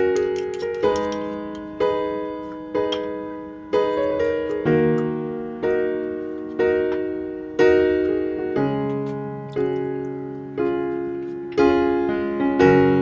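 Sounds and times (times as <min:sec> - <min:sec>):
piano playing slow chords: 0:00.0 - 0:13.0.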